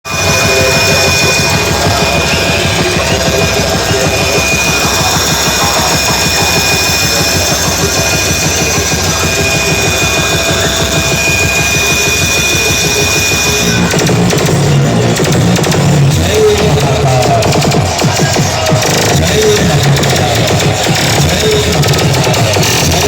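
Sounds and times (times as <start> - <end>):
loud bass-heavy music on speakers: 0.0 - 23.0.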